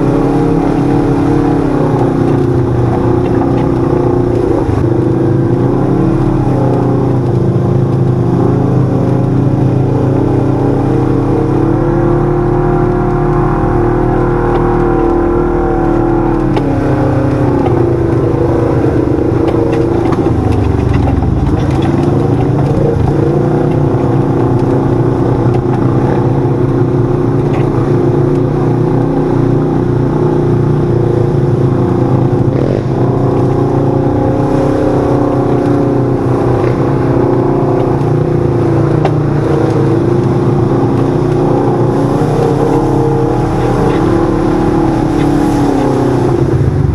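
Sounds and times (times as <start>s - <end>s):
utility vehicle engine running: 0.0s - 46.9s.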